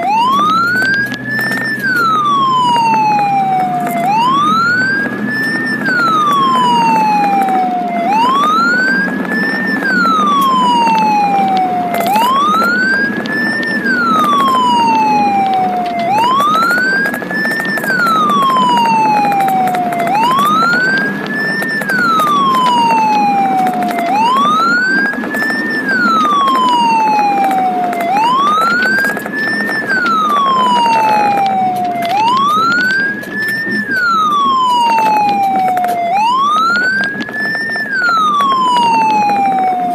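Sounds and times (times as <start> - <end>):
ambulance siren wailing: 0.0 - 39.9
vehicle engine and road noise: 0.0 - 39.9.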